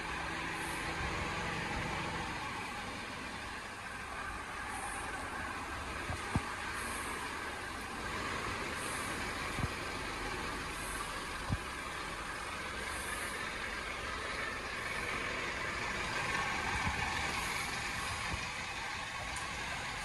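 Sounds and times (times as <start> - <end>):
car wash equipment hiss and hum: 0.0 - 20.0.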